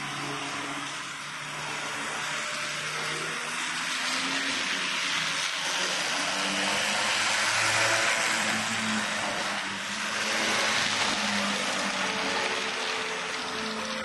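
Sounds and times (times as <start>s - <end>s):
model train motor whir: 0.0s - 14.0s
wheels hissing on track: 0.0s - 14.0s.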